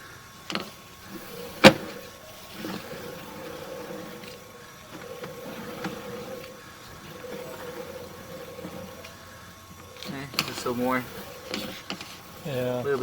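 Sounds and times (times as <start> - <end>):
faint mechanical hum: 0.0 - 13.0.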